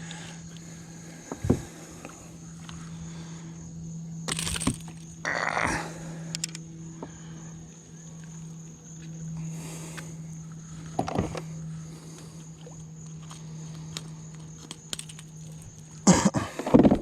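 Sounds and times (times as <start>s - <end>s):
insect chorus: 0.0s - 17.0s
low steady hum: 0.0s - 17.0s.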